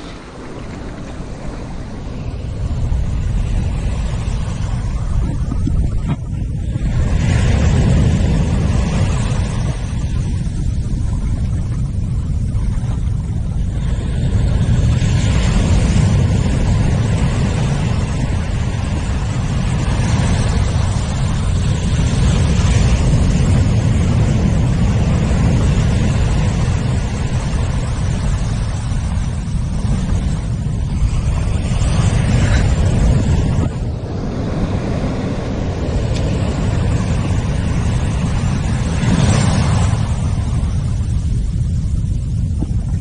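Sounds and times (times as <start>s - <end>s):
surf washing across sand: 0.0s - 43.0s
wind rumbling on microphone: 0.0s - 43.0s.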